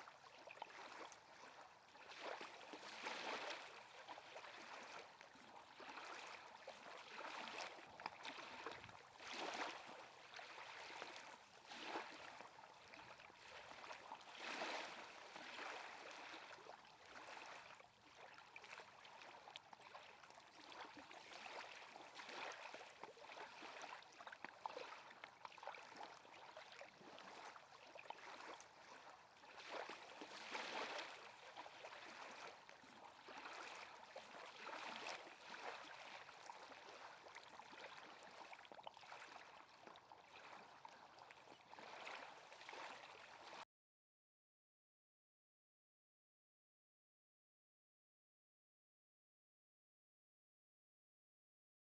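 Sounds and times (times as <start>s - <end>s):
lake water lapping: 0.1s - 43.6s.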